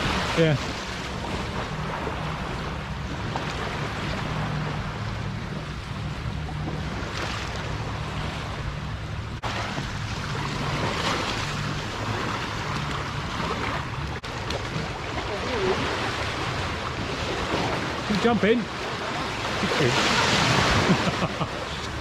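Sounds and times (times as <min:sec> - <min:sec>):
outboard motor running: 0:00.0 - 0:22.0
rushing water: 0:00.0 - 0:22.0.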